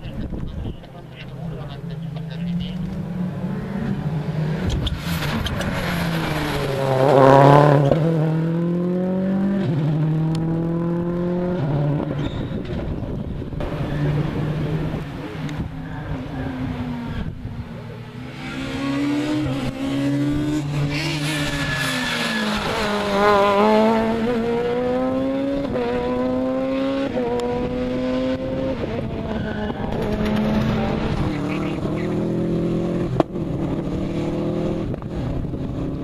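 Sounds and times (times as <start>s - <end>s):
second rally car approaching: 0.0s - 36.0s
rally car accelerating past: 3.0s - 36.0s.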